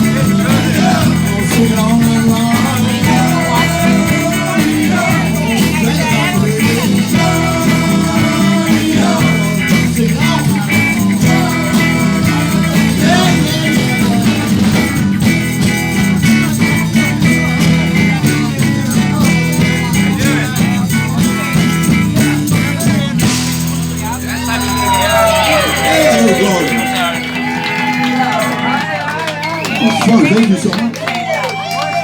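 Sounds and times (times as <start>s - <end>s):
bass line: 0.0s - 29.0s
live band playing: 0.0s - 32.0s.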